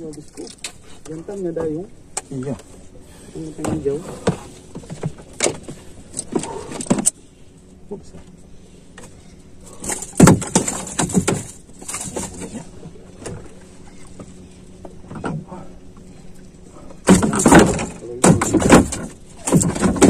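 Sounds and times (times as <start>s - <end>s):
knocks and thumps in a boat: 0.0s - 7.2s, 8.1s - 20.0s.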